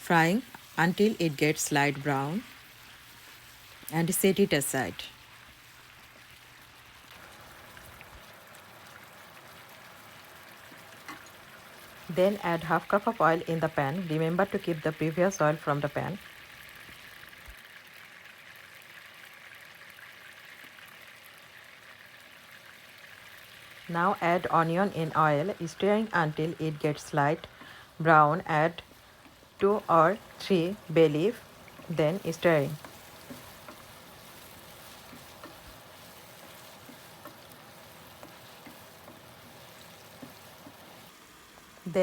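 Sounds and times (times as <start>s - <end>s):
oil sizzling in a frying pan: 0.0s - 42.0s.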